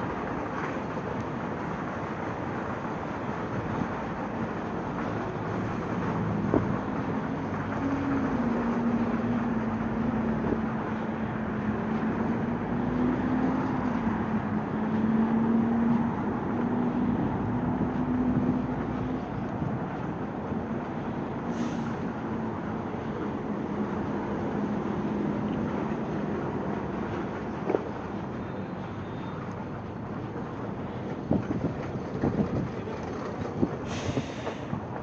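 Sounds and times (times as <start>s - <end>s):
city street traffic: 0.0s - 35.0s
low engine hum: 0.0s - 35.0s.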